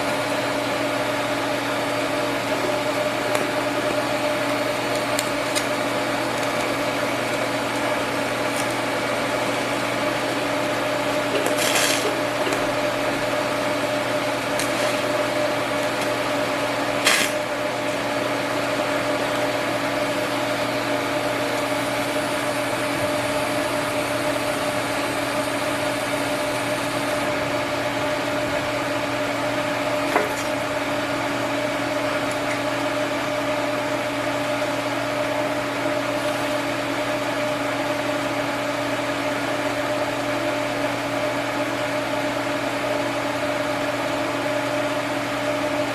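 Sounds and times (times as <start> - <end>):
arc welder buzzing hum: 0.0 - 45.9.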